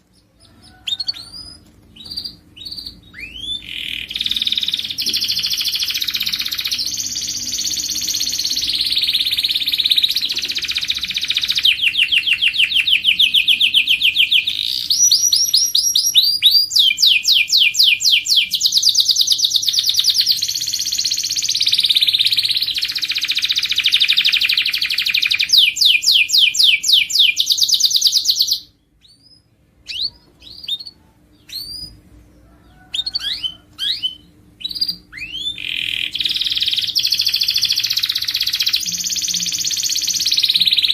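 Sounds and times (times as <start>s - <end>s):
canary chirps: 0.0s - 40.9s
canary singing rapid trills: 0.0s - 40.9s.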